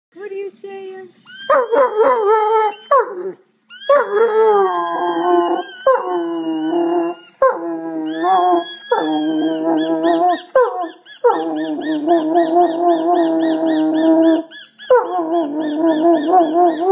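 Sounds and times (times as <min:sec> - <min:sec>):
dog howling: 0:01.5 - 0:16.9.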